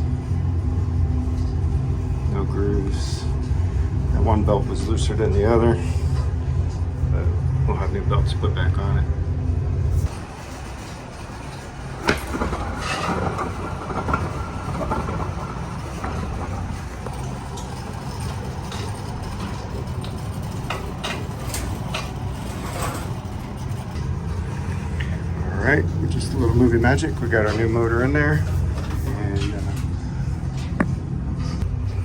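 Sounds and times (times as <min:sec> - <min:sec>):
mechanical rumble: 0:00.0 - 0:32.0.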